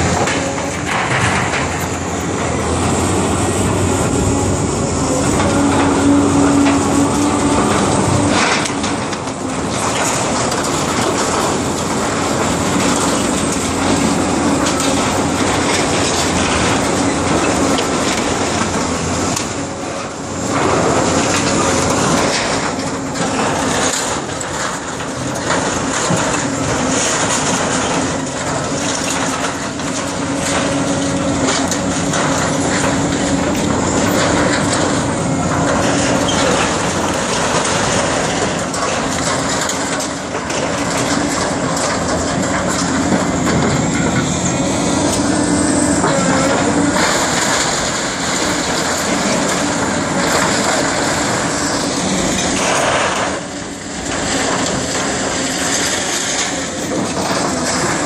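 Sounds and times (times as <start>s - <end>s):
excavator diesel engine running: 0.0s - 58.0s
metal crunching and debris clattering: 0.0s - 58.0s.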